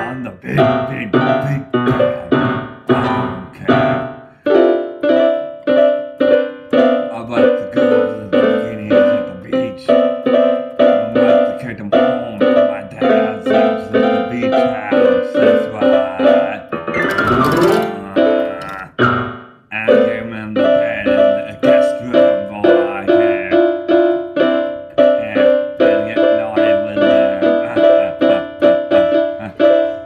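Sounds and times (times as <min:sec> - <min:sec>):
electric piano chords: 0:00.0 - 0:30.0.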